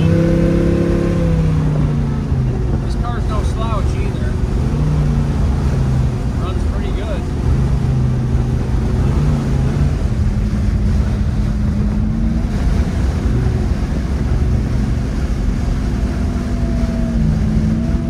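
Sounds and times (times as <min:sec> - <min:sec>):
car engine cruising: 0:00.0 - 0:18.0
wind noise: 0:00.0 - 0:18.0.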